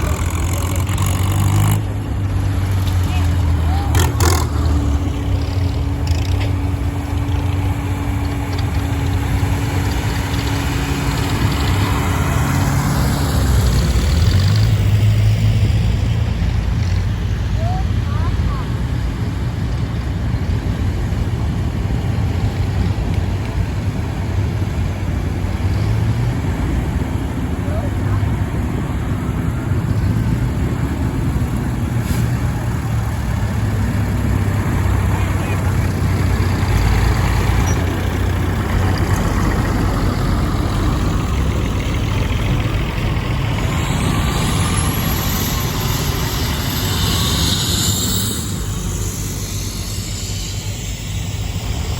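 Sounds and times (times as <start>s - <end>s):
tractor engine humming: 0.0s - 51.9s.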